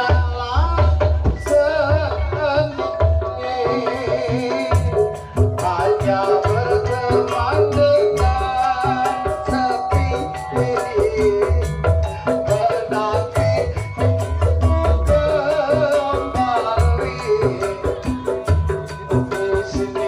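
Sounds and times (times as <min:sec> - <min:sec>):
rattling percussion: 0:00.0 - 0:20.0.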